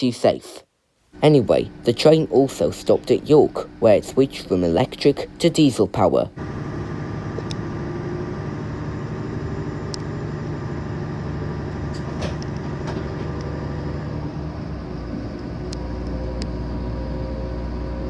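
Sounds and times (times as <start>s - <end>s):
train engine hum and rumble: 1.1s - 18.0s.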